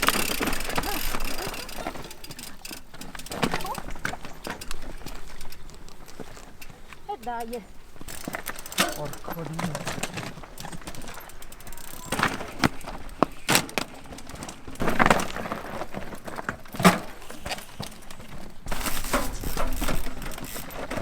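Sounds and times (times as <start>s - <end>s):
bikes clattering over rocks: 0.0s - 21.0s.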